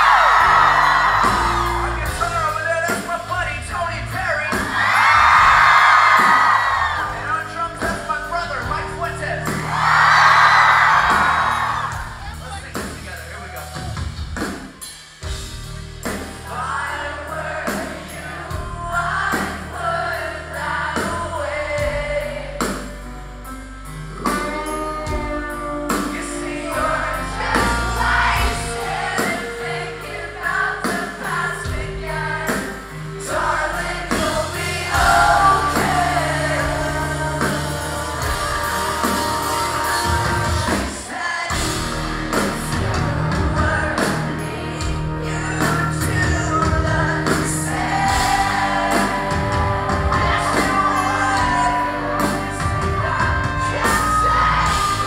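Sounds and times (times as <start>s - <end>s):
lead vocal singing: 0.0s - 12.2s, 16.0s - 23.3s, 24.0s - 55.0s
live rock band through pa: 0.0s - 55.0s.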